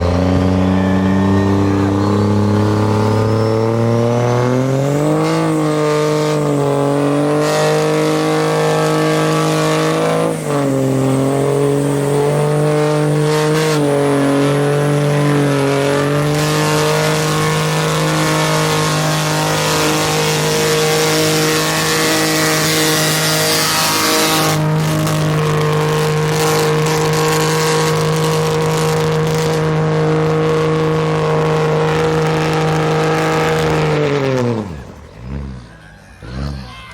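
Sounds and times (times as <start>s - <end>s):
tires spinning hiss: 0.0s - 35.7s
diesel engine revving: 0.0s - 36.9s.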